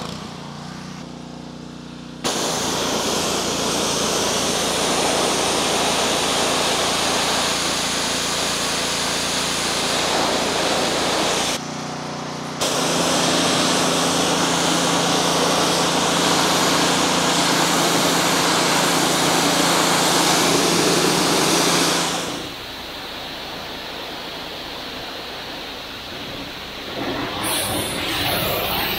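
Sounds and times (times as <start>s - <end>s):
pressure washer engine running: 0.0s - 28.9s
high-pressure spray hissing: 2.3s - 11.6s, 12.6s - 24.5s, 25.2s - 28.9s.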